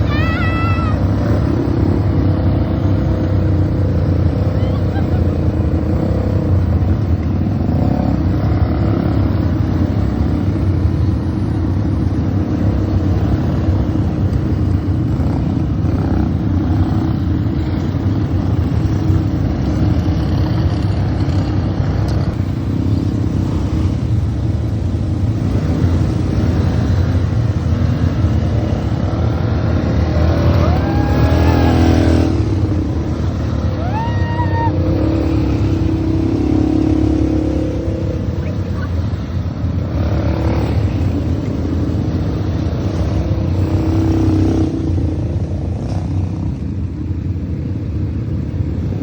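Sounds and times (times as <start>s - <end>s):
atv engine droning: 0.0s - 49.0s.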